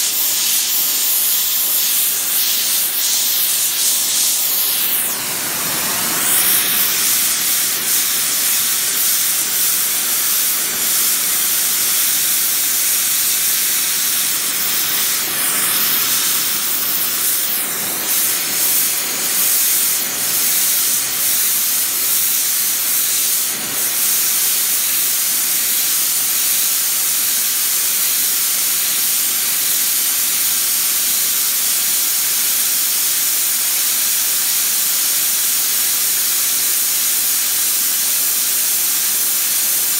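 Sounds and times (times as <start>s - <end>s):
gas torch flame hissing: 0.0s - 39.9s.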